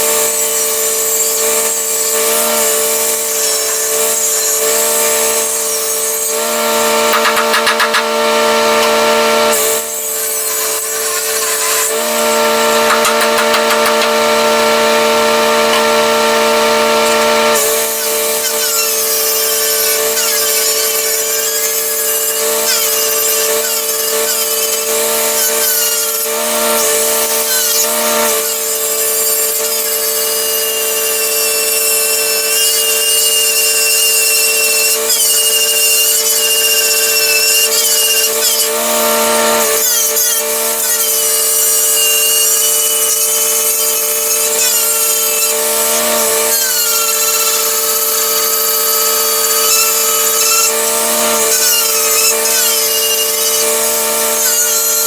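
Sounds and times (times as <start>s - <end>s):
welder engine whining: 0.0s - 55.0s.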